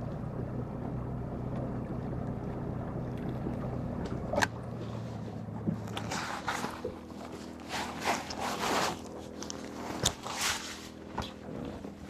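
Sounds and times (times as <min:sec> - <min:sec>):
boat motor humming: 0:00.0 - 0:12.0
light wind: 0:00.0 - 0:12.0
water noise: 0:00.0 - 0:12.0.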